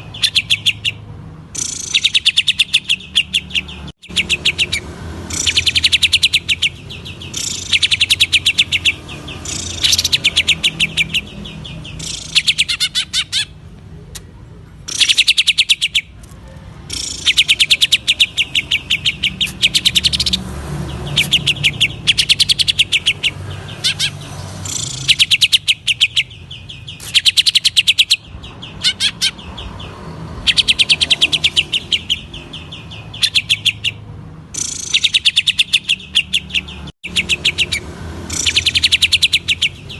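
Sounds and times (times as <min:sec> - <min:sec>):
bird singing rattling notes: 0:00.0 - 0:13.7, 0:14.9 - 0:16.2, 0:16.8 - 0:39.9.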